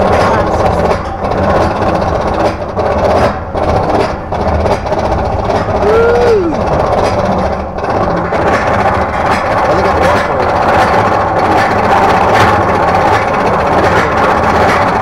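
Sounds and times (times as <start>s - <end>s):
lift hill chain clattering: 0.0s - 15.0s.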